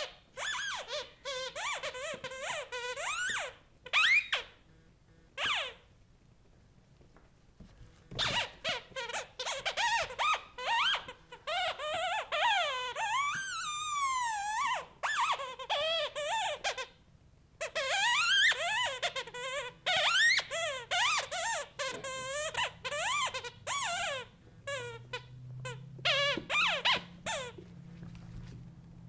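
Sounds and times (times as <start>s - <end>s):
squeaky toy squeaking: 0.0s - 4.6s, 5.4s - 5.9s, 8.1s - 17.0s, 17.6s - 27.7s.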